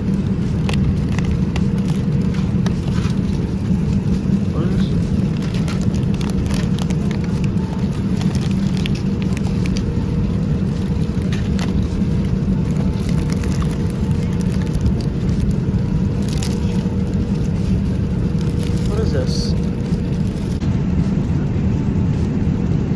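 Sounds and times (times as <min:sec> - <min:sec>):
airliner cabin roar: 0:00.0 - 0:22.9.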